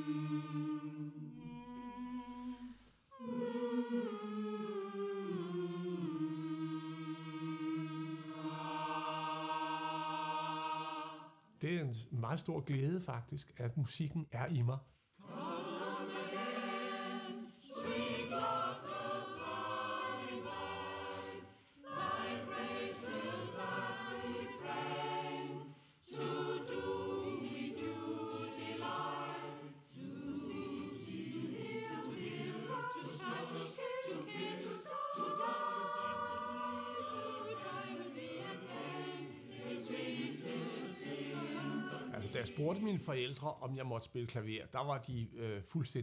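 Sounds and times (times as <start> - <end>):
mixed choir singing: 0.0 - 11.5, 15.2 - 43.2.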